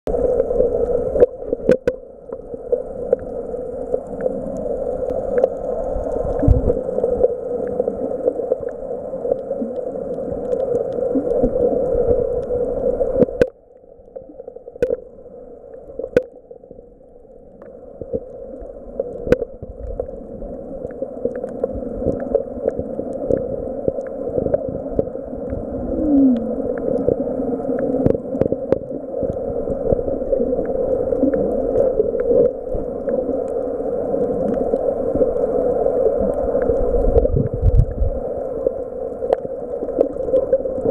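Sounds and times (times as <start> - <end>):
muffled underwater rush: 0.1 - 40.9.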